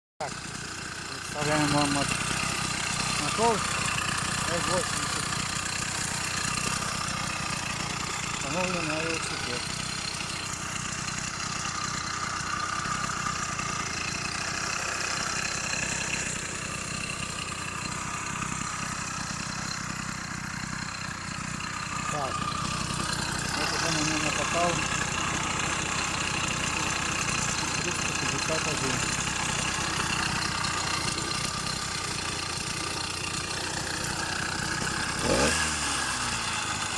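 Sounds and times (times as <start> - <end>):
small two-stroke engine idling: 0.2 - 36.9.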